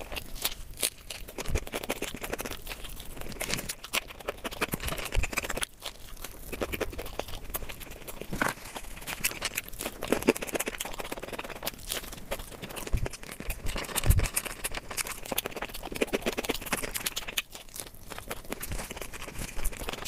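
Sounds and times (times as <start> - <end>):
chewing with mouth clicks: 0.0 - 20.0.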